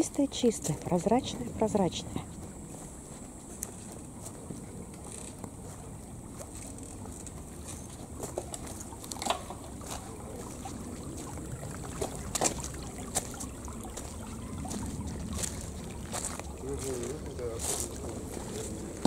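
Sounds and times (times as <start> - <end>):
stream trickling and gurgling: 0.0 - 19.0.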